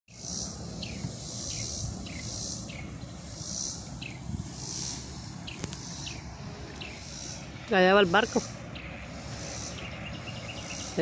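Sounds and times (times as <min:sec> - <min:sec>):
insects pulsing chorus: 0:00.1 - 0:11.0.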